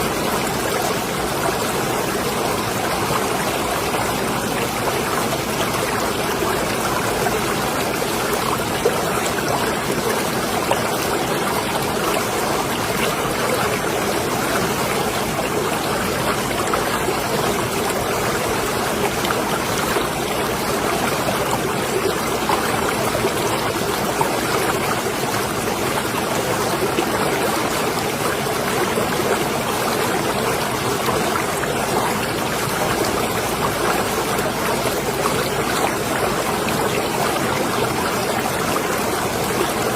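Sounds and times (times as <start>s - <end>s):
water lapping and trickling: 0.0s - 39.9s.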